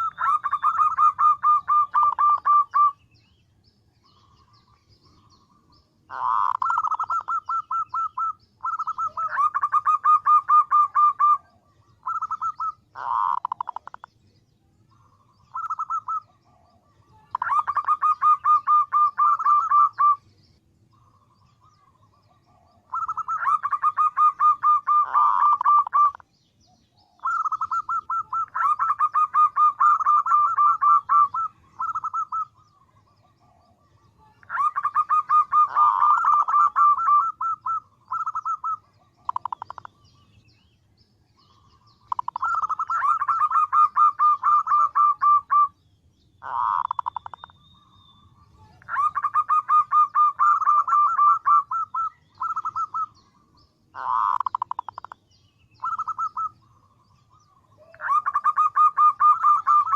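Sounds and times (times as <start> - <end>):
dove trilling call: 0.0 - 3.4, 4.0 - 14.2, 14.8 - 59.9.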